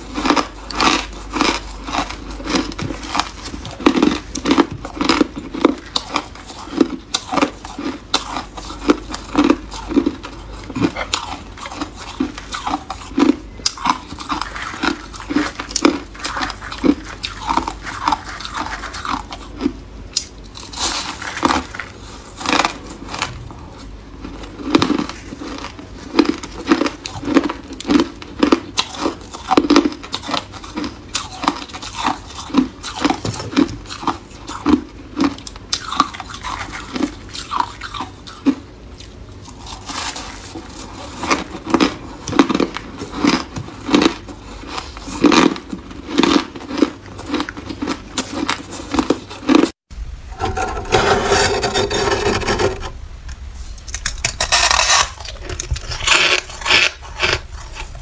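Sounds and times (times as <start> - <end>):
person chewing ice crunching: 0.0 - 49.8, 53.9 - 58.0.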